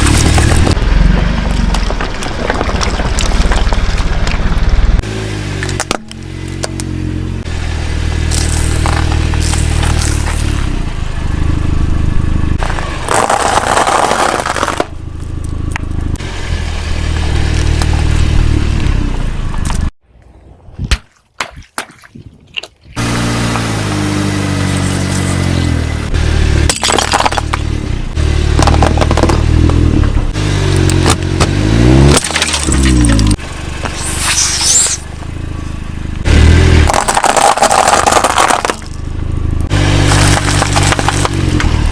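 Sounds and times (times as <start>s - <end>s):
objects crunching under tyres: 0.0s - 20.0s, 20.9s - 41.9s
car engine revving: 3.2s - 19.9s, 23.0s - 41.9s.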